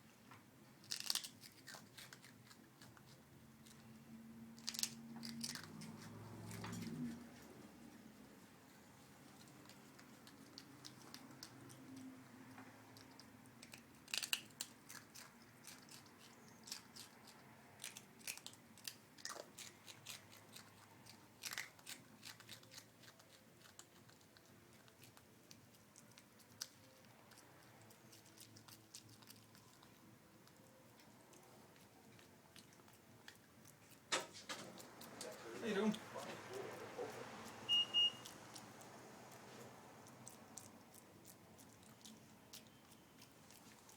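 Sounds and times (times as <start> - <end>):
monkey crunching and chewing: 0.7 - 43.9.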